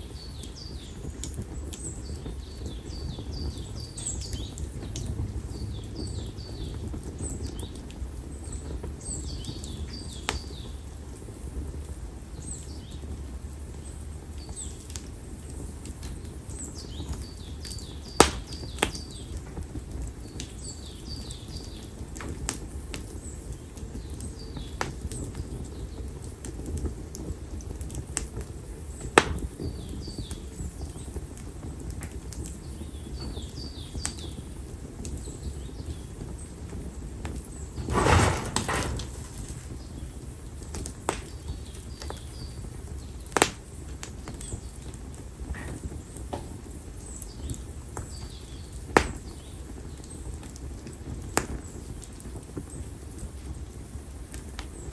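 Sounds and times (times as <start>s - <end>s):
open fire crackling and popping: 0.0s - 54.9s
small birds chirping: 0.0s - 54.9s.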